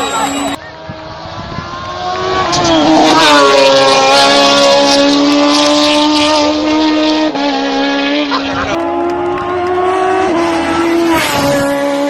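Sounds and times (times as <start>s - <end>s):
high-revving engine passing by: 0.0s - 12.0s.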